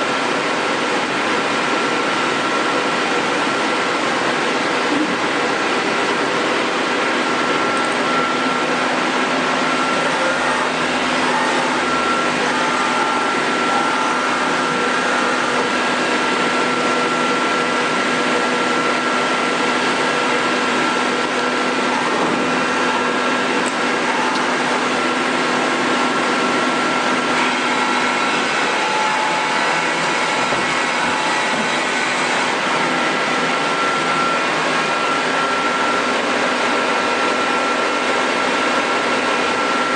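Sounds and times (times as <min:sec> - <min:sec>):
lathe whirring with high whine: 0:00.0 - 0:39.9.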